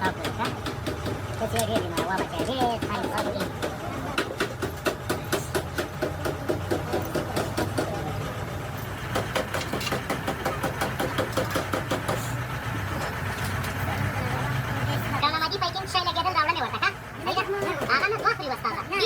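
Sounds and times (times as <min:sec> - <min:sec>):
engine idling with even ticking: 0:00.0 - 0:19.0.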